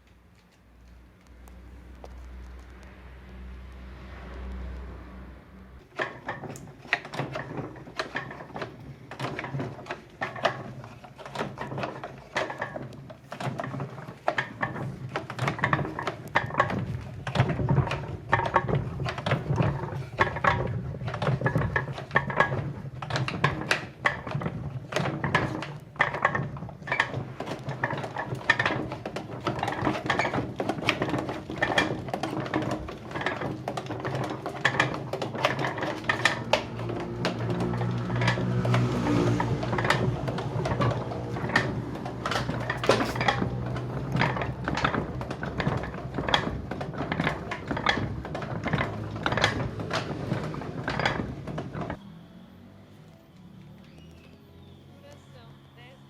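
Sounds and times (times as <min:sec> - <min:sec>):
washing machine mechanism clattering: 0:05.8 - 0:52.0.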